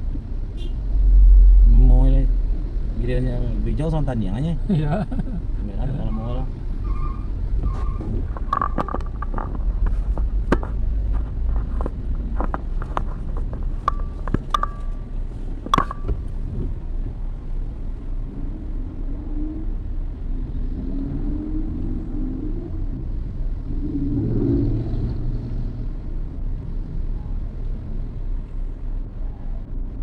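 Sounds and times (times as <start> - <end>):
car engine rumble: 0.0 - 30.0
road noise inside car: 0.0 - 30.0.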